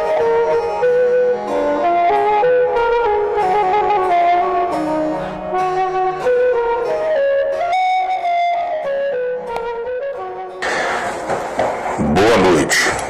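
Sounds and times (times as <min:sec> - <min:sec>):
soft musical accompaniment: 0:00.0 - 0:10.6.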